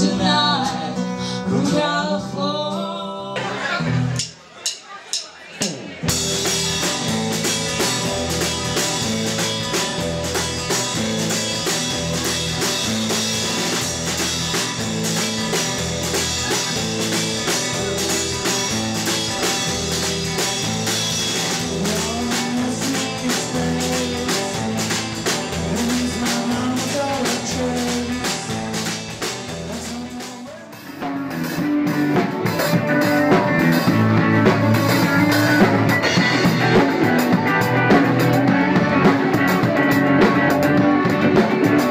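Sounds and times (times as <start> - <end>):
live band music: 0.0 - 41.9.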